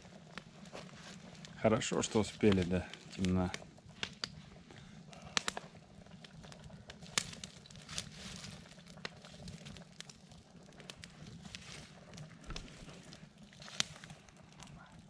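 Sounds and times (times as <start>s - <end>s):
campfire crackling: 0.0s - 15.0s
sharp pops of burning logs: 0.0s - 15.0s.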